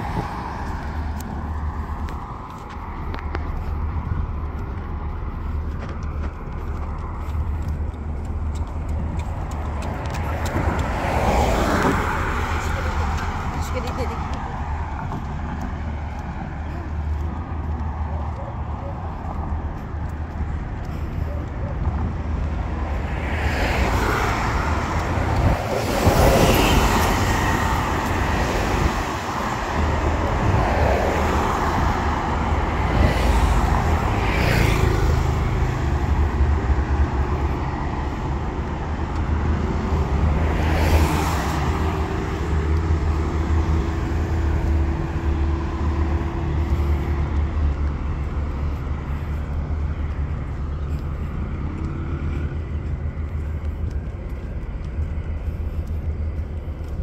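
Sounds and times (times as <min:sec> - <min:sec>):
engine hum: 0:00.0 - 0:57.0
road traffic rumble: 0:00.0 - 0:57.0
vehicles passing: 0:00.0 - 0:57.0.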